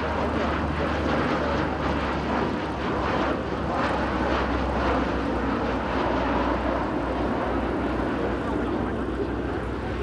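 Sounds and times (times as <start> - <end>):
turboprop aircraft drone: 0.0 - 10.0.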